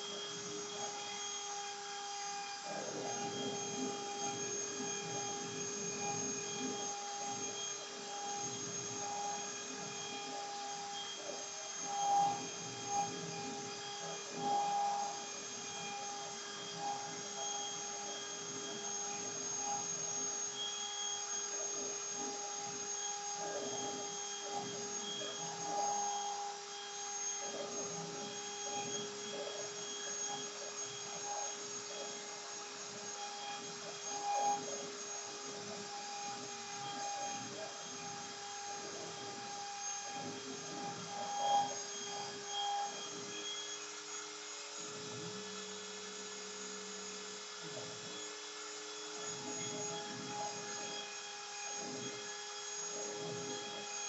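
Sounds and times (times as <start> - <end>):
router spindle high whine: 0.0 - 54.0.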